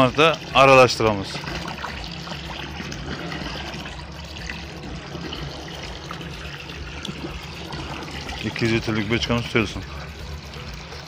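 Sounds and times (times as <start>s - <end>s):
water pouring from hose into barrel: 0.0s - 11.0s.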